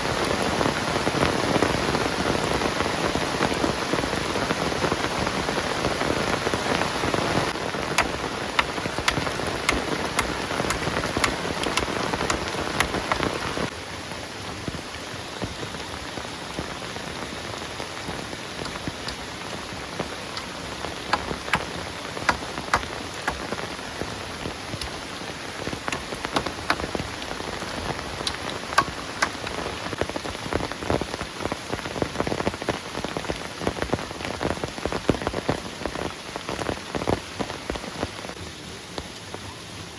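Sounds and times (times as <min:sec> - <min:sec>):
heavy rain: 0:00.0 - 0:39.9
raindrops tapping and dripping: 0:00.0 - 0:39.9.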